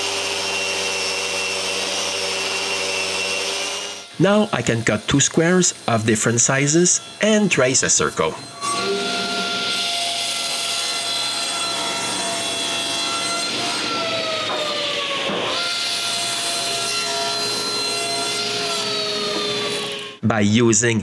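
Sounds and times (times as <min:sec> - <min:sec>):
power saw cutting wood: 0:00.0 - 0:20.2.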